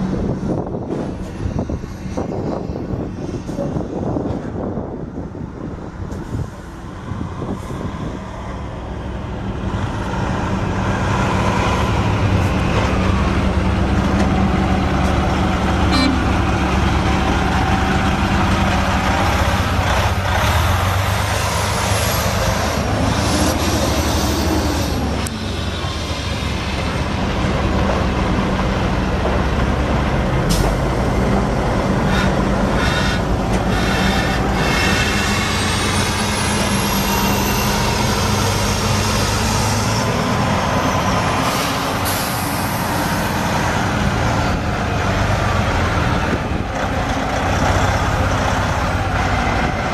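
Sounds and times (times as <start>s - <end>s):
diesel truck engine running: 8.9s - 49.9s.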